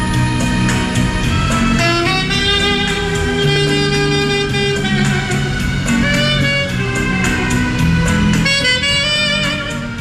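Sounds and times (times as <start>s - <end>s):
backing track with bass and beat: 0.0s - 10.0s
saxophone melody: 0.4s - 10.0s.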